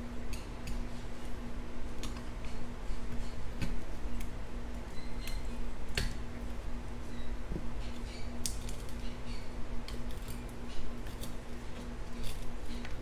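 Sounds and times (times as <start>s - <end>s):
shop fan humming: 0.0s - 13.0s.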